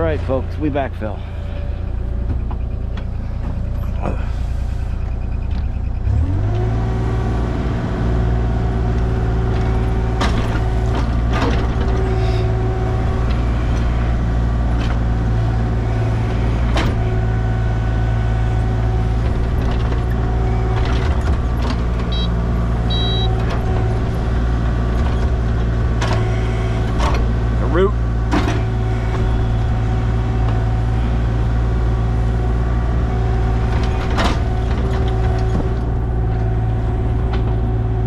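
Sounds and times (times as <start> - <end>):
excavator engine revving: 0.0 - 38.0.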